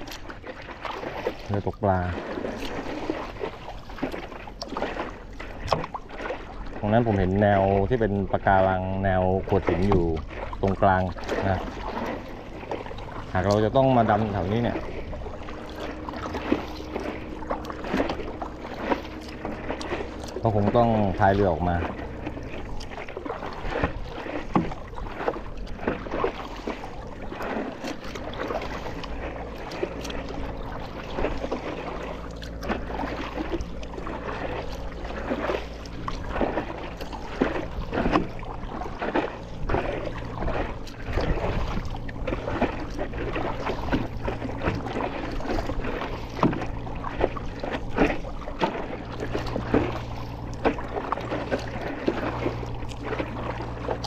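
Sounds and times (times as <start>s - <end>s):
low steady hum: 0.0s - 54.0s
paddle splashing in water: 0.0s - 54.0s.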